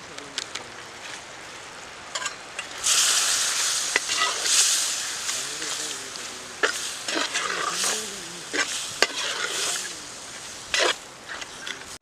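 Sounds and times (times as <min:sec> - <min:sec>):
curry sizzling in oil: 0:01.1 - 0:12.0
ladle scraping pan: 0:02.2 - 0:12.0.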